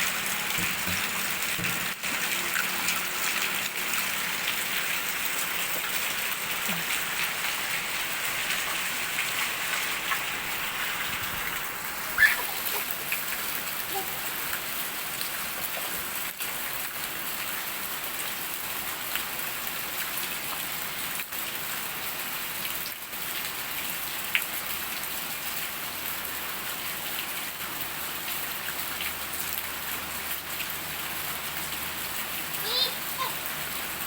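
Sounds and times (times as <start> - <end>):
raindrop ticks and splashes: 0.0 - 34.0
steady rain hissing: 0.0 - 34.0.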